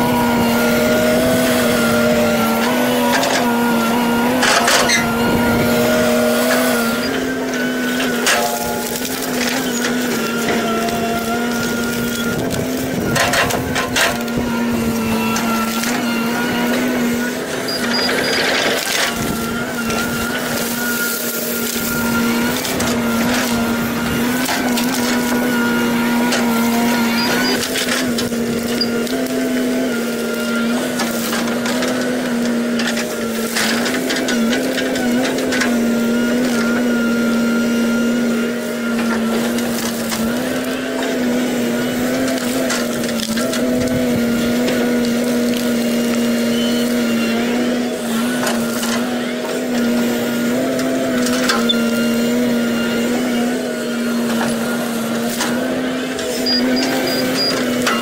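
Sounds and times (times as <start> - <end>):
excavator diesel engine under load: 0.0 - 58.0.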